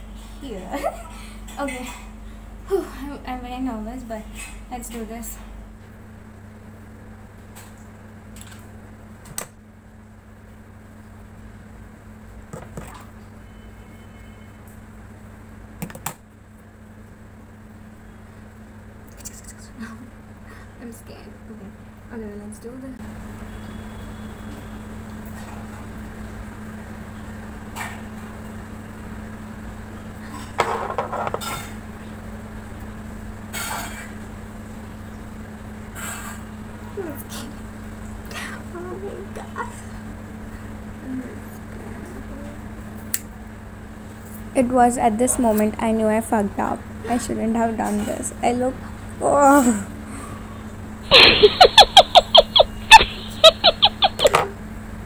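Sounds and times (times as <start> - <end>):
low room hum: 0.0 - 55.0.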